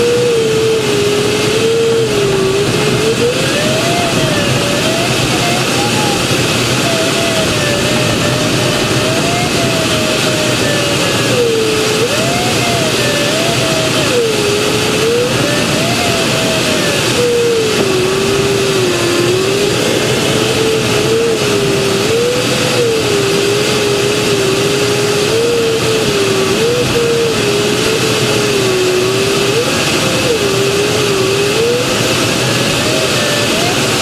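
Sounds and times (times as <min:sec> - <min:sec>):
airflow rushing over canopy: 0:00.0 - 0:34.0
wavering variometer tone: 0:00.0 - 0:34.0.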